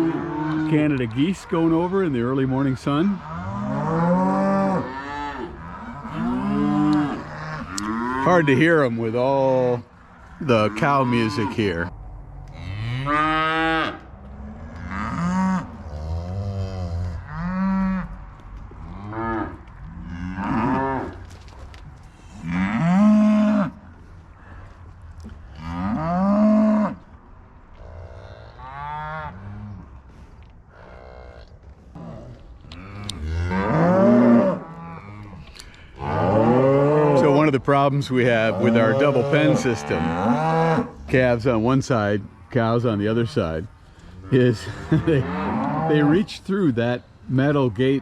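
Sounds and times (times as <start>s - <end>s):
cows and calves bawling: 0.0s - 42.1s, 42.9s - 48.0s.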